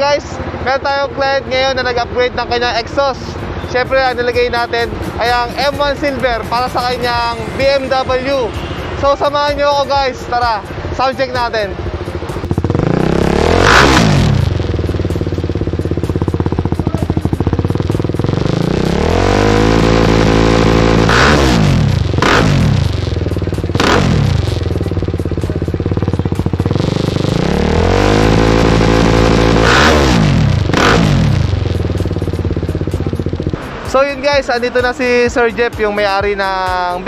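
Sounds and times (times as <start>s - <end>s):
motorcycle engine idling and revving: 0.0s - 37.0s.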